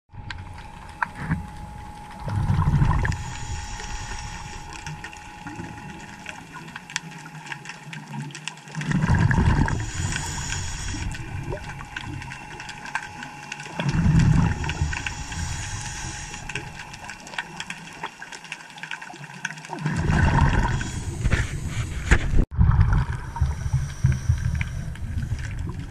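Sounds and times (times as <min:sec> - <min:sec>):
rumbling surges of exhaled bubbles: 0:00.6 - 0:06.8, 0:08.0 - 0:18.0, 0:19.6 - 0:25.9.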